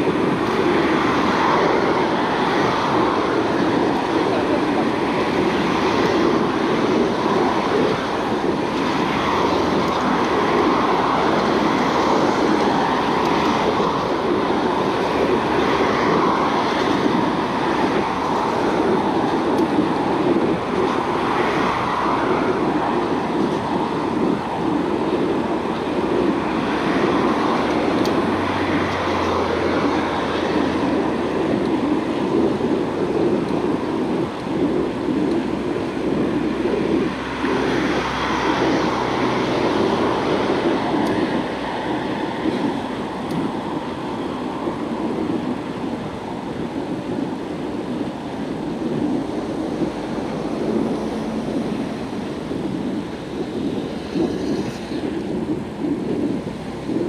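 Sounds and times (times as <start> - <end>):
air rushing over microphone: 0.0 - 57.0
bicycle tyres rolling on pavement: 0.0 - 57.0
road traffic: 0.0 - 57.0.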